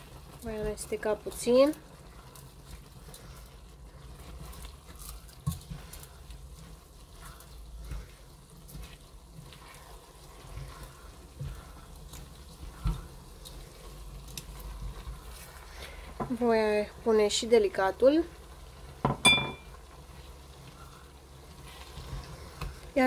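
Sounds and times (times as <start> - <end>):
food sizzling: 0.0 - 23.0
spatula stirring food in pot: 0.0 - 23.0.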